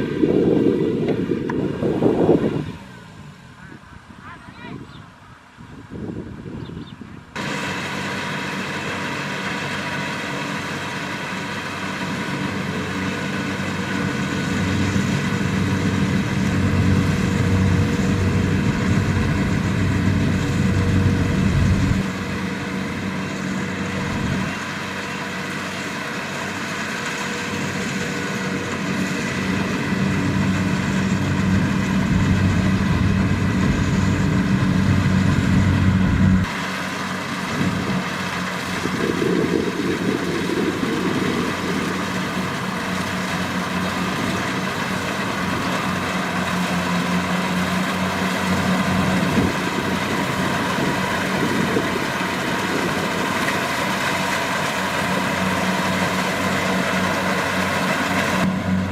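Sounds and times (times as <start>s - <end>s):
combine harvester diesel drone: 0.0s - 58.9s
machinery whirring: 7.4s - 58.9s.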